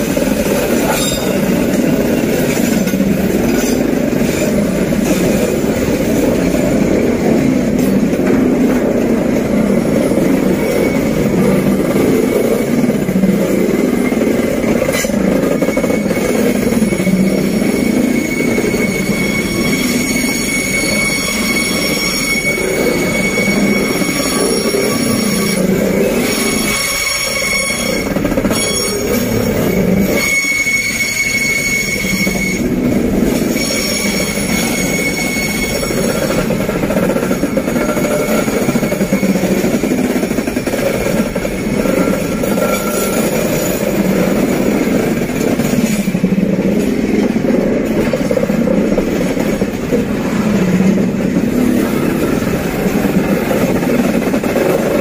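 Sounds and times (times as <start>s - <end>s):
high wheel squeal: 0.0s - 55.0s
train wheels rumbling on rails: 0.0s - 55.0s.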